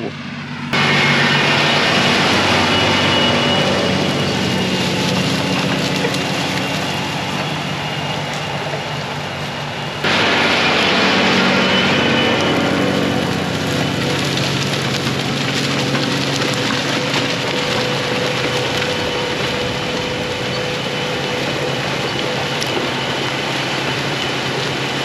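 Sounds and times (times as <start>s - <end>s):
diesel tractor engine running: 0.0s - 25.0s
loud rushing noise: 0.0s - 25.0s.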